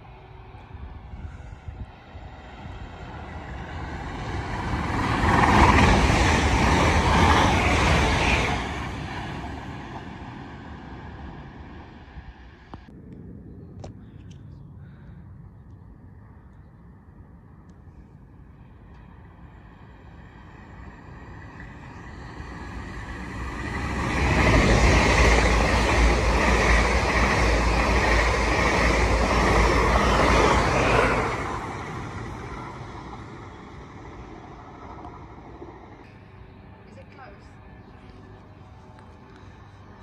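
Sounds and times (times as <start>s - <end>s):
electric train passing: 0.0s - 13.4s, 18.2s - 40.0s.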